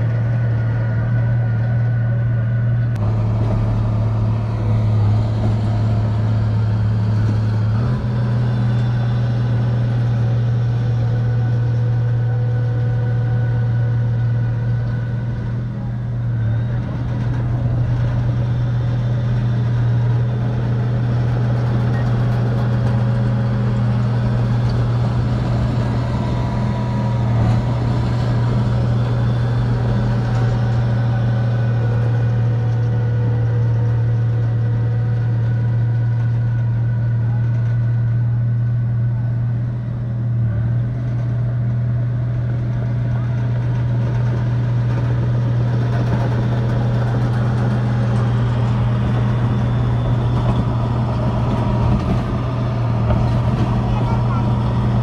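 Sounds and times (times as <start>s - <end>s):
bulldozer diesel engine humming: 0.0s - 55.0s.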